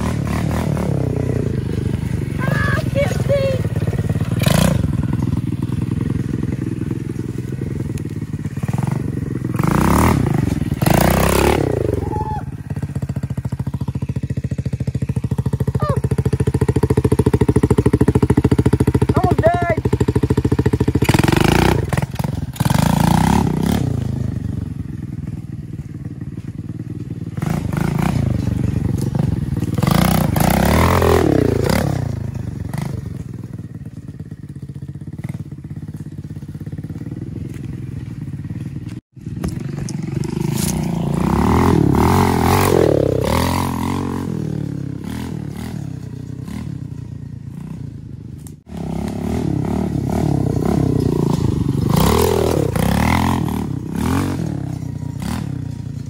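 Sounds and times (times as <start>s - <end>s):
dirt bike engine revving: 0.0s - 25.5s, 26.9s - 56.0s.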